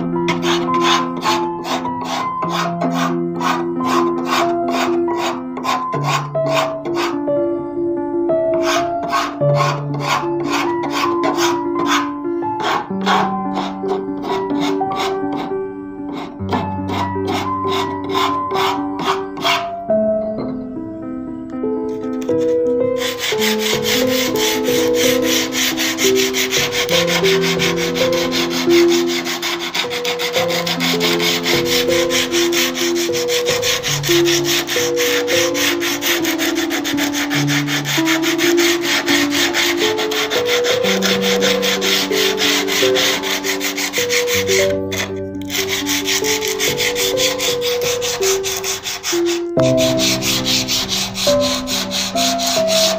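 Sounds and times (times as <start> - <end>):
sanding wood: 0.0 - 7.2, 8.6 - 15.5, 16.1 - 19.7, 22.4 - 52.9
instrumental melody: 0.0 - 52.9.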